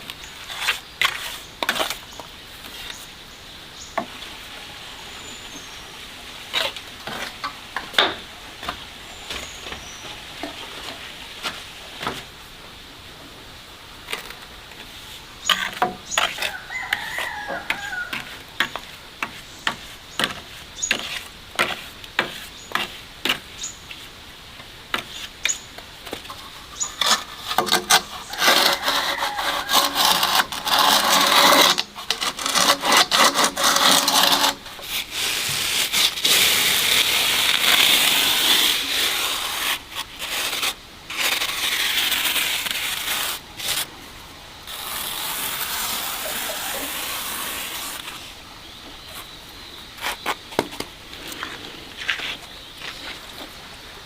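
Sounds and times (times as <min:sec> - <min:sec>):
rough scraping: 0:00.0 - 0:03.1, 0:06.4 - 0:12.3, 0:14.0 - 0:24.2, 0:24.9 - 0:48.4, 0:49.0 - 0:53.6.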